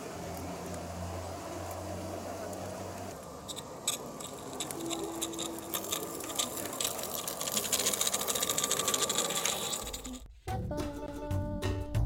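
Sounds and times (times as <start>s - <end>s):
model steam train clicking: 0.0s - 10.3s.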